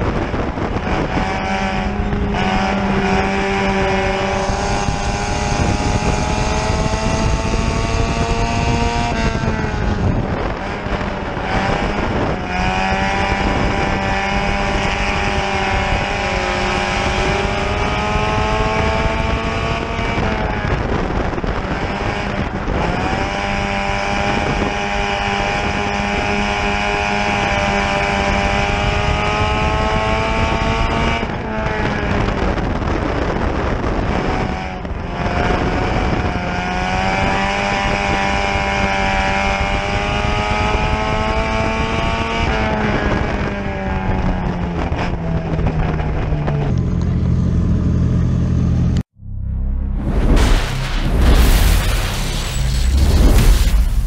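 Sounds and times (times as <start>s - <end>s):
race car engine revving: 0.0s - 44.2s.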